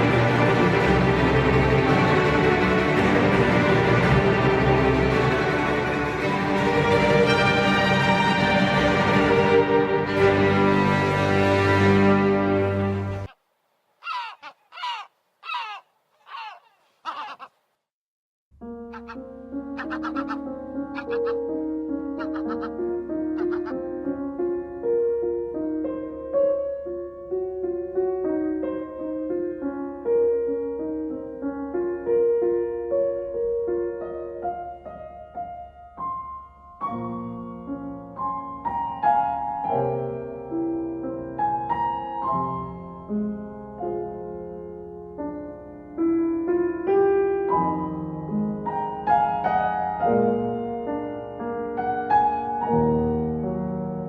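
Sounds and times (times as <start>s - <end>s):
gentle piano music: 0.0s - 13.3s, 18.6s - 54.0s.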